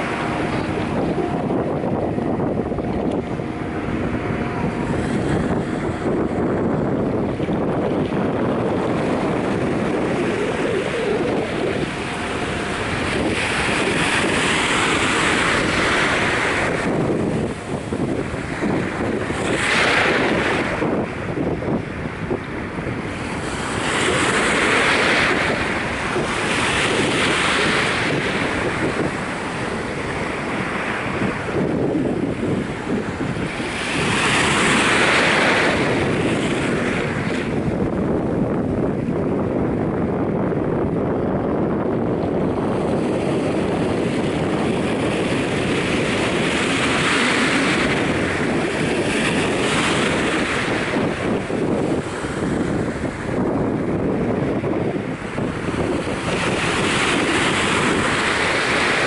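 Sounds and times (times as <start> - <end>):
waves lapping on sandy shore: 0.0 - 59.0
wind rumble on microphone: 0.0 - 59.0.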